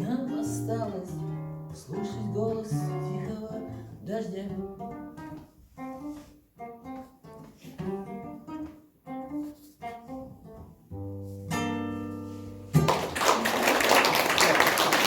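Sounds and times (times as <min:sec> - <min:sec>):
acoustic guitar playing: 0:00.0 - 0:13.2.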